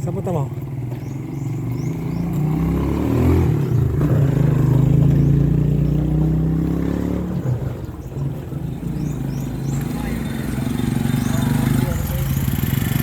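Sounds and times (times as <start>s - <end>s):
vehicle engine passing by: 0.2s - 13.0s.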